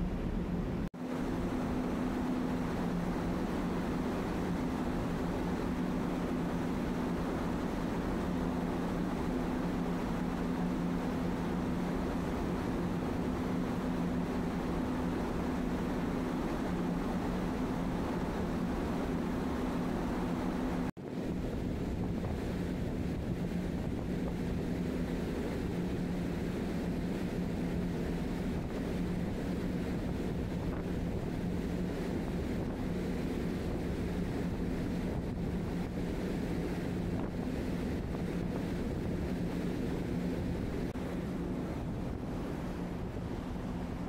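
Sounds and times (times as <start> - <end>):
low hum from ship: 0.0 - 44.0
wind buffeting microphone: 0.0 - 44.0.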